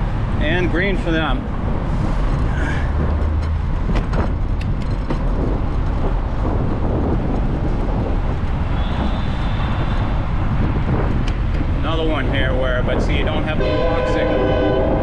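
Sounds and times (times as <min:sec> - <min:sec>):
bicycle road noise: 0:00.0 - 0:15.0
car traffic: 0:00.0 - 0:15.0
wind on microphone: 0:00.0 - 0:15.0.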